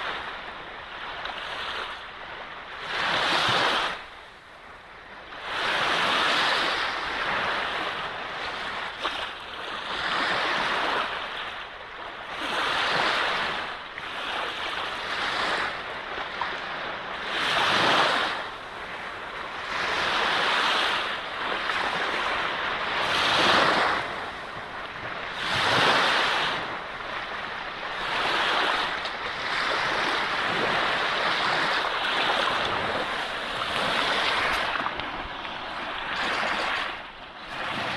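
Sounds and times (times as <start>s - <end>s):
sea waves washing onto beach: 5.3s - 37.9s.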